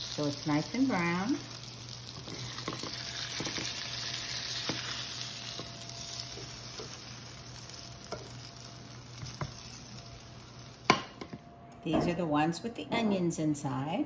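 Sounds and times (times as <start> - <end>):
potato cakes sizzling in oil: 0.0 - 11.4.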